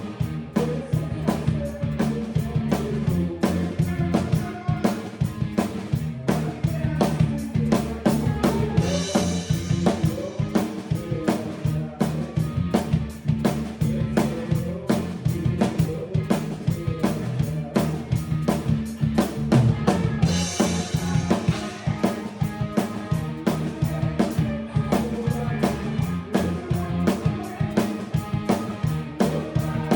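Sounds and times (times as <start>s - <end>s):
bass and guitar notes: 0.0s - 29.9s
drum kit playing a steady beat: 0.0s - 29.9s.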